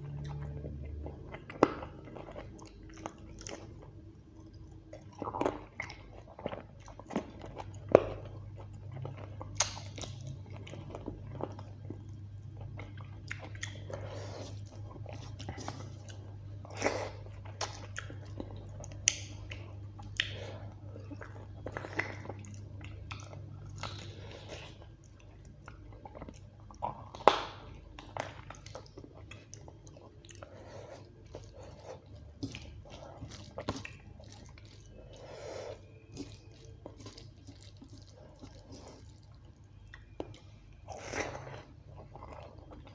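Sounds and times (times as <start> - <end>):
food crunching: 0.0 - 42.9
person chewing food: 0.0 - 42.9
steady low hum: 0.0 - 42.9.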